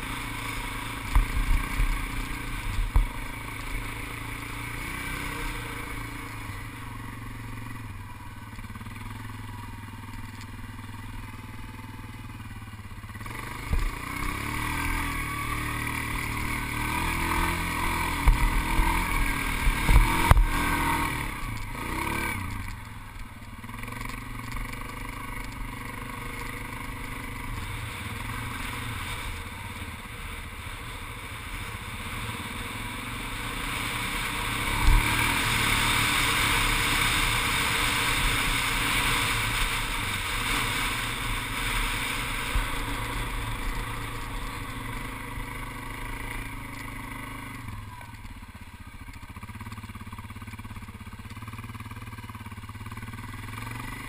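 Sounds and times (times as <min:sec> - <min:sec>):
atv engine under throttle: 0:00.0 - 0:54.0.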